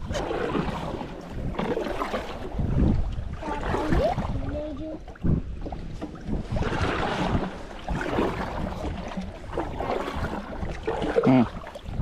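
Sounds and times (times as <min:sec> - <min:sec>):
water splashing around kayak: 0:00.0 - 0:12.0
wind buffeting microphone: 0:00.0 - 0:12.0.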